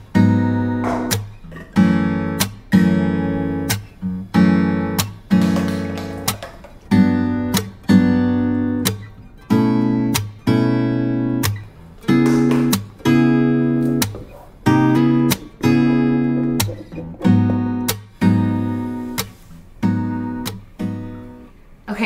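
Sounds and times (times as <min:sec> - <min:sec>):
acoustic guitar strumming chords: 0:00.0 - 0:21.7.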